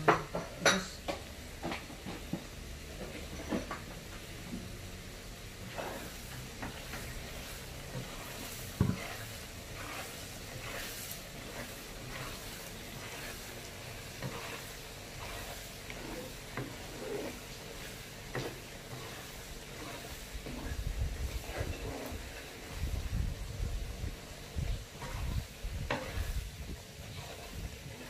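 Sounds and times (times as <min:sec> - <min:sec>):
fish frying with low sizzle: 0:00.0 - 0:28.0
spatula scraping and tapping pan: 0:00.0 - 0:28.0.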